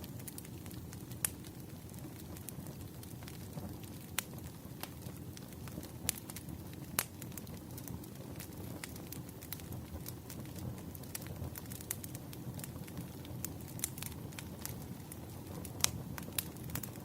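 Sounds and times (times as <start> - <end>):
fire crackling and popping: 0.0 - 17.0
wood fire rumble: 0.0 - 17.0.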